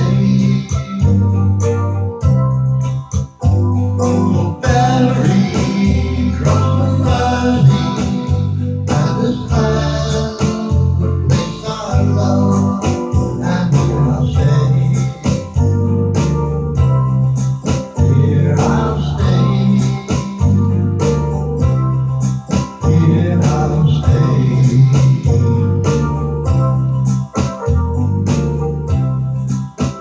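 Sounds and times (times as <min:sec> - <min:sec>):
bass line: 0:00.0 - 0:30.0
guitar: 0:00.0 - 0:30.0.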